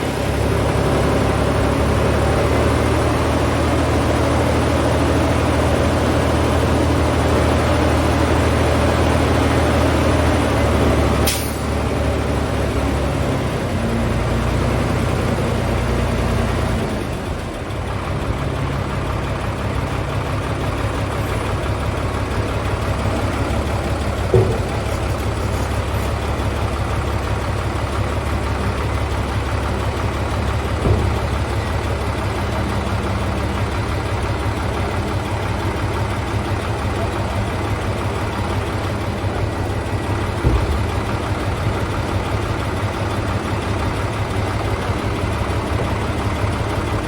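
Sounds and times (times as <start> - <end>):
truck diesel engine running: 0.0 - 47.0.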